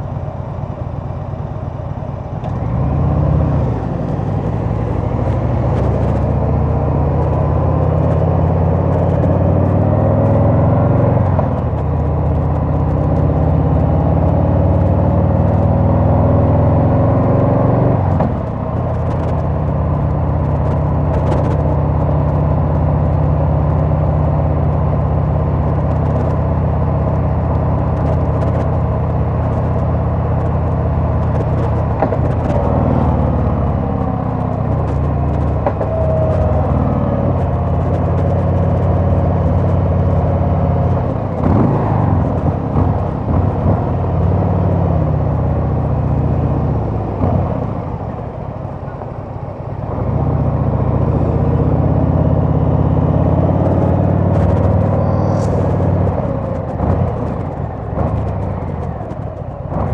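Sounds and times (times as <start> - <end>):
motorcycle engine revving: 2.4 - 49.0, 49.6 - 59.9.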